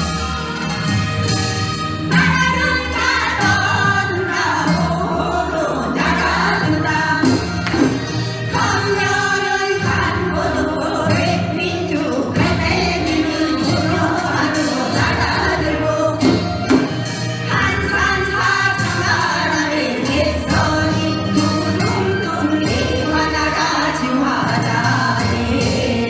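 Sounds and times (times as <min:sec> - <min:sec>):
instrumental accompaniment: 0:00.0 - 0:26.0
voices singing a folk song: 0:00.0 - 0:26.0.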